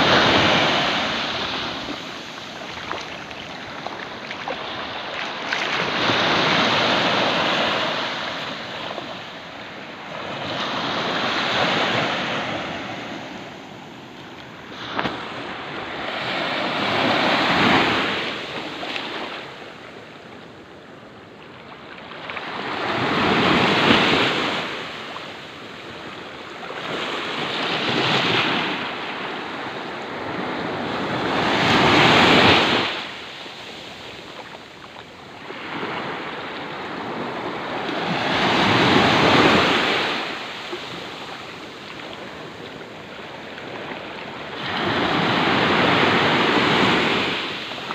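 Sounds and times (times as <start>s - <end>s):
small waves washing ashore: 0.0s - 47.9s.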